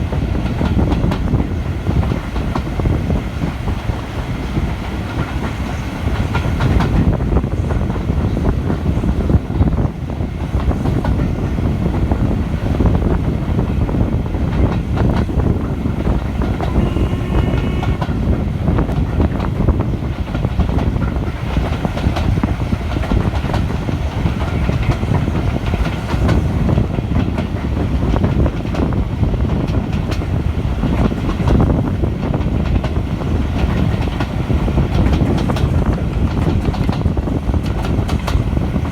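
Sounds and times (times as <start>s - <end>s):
train wheels rumbling on rails: 0.0s - 38.9s
clicking over rail joints: 0.4s - 9.7s, 10.4s - 38.9s.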